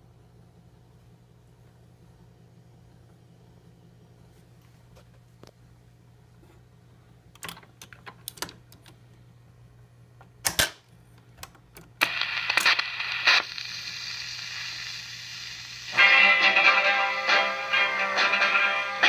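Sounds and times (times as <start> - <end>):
low steady hum: 0.0 - 19.0
record surface hiss: 0.0 - 19.0.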